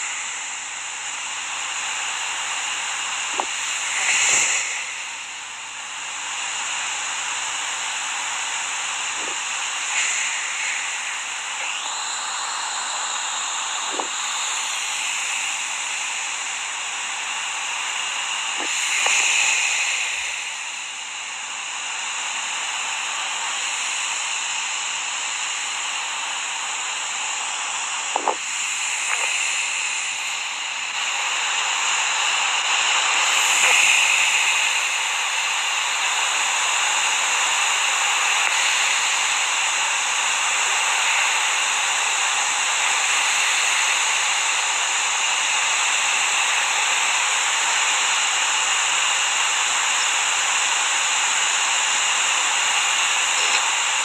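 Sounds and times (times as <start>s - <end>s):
steady hissing: 0.0s - 54.0s.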